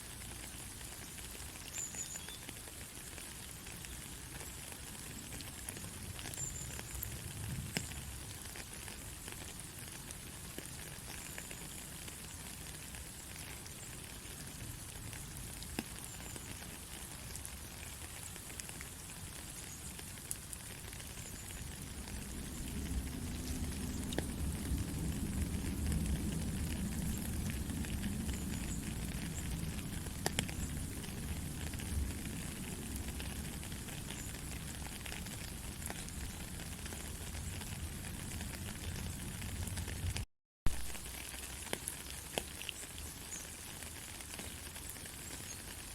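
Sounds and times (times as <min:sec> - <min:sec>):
soft steady rain: 0:00.0 - 0:45.9.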